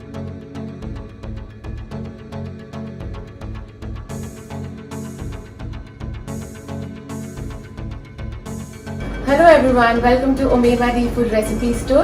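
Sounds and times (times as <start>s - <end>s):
sustained bass notes: 0.0s - 12.0s.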